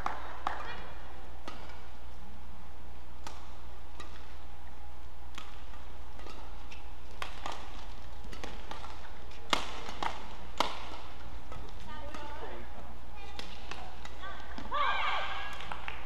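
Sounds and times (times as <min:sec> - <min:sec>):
rackets striking shuttlecock: 0:00.0 - 0:02.3, 0:03.1 - 0:16.0
steady low hum: 0:00.0 - 0:16.0.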